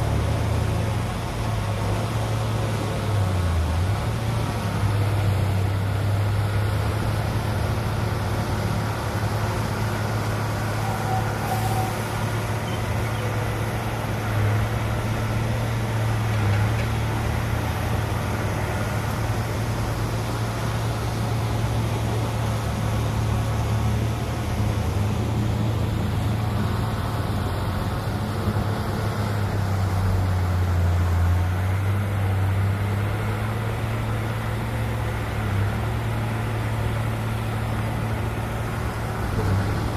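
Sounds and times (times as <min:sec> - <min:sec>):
heavy diesel engine humming: 0:00.0 - 0:39.9.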